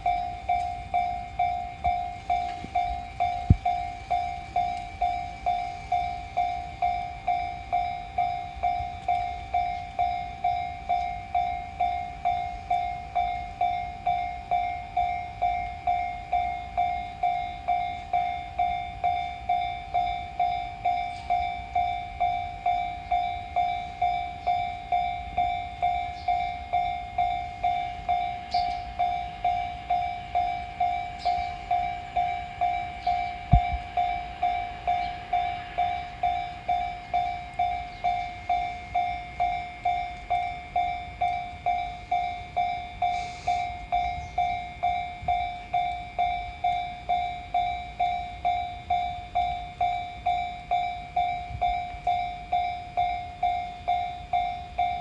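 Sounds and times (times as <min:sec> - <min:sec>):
railroad crossing warning bell: 0:00.0 - 0:55.0.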